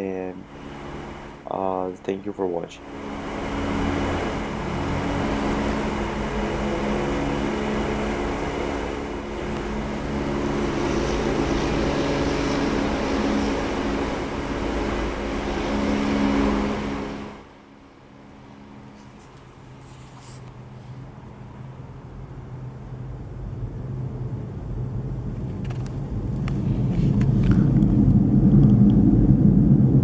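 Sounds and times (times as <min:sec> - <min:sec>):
low drone with held tones: 0:00.0 - 0:30.0
rumbling hiss: 0:00.0 - 0:30.0.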